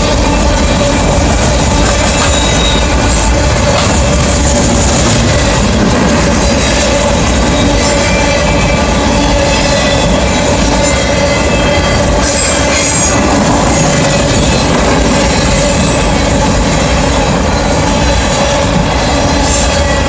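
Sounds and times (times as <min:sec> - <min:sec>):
train wheels rumbling on rail: 0:00.0 - 0:20.0
train wheels squealing: 0:00.0 - 0:20.0.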